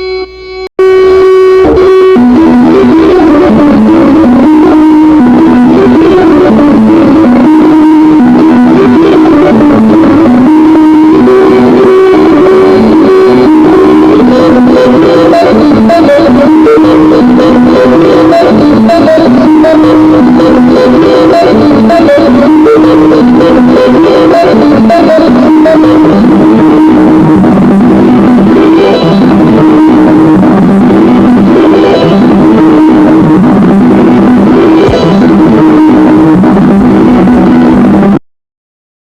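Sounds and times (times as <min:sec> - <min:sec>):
loud music with guitar melody: 0:00.8 - 0:38.2.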